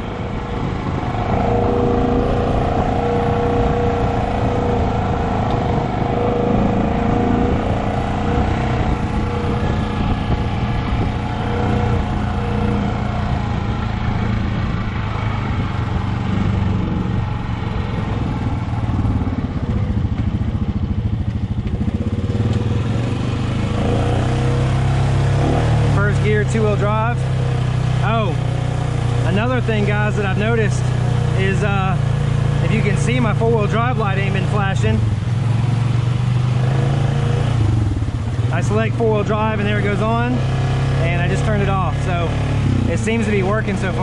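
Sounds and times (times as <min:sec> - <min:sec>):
quad bike engine running: 0:00.0 - 0:44.0.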